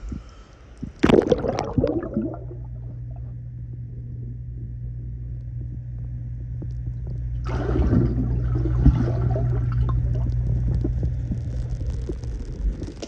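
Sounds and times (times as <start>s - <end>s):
underwater low hum: 0.0s - 13.0s.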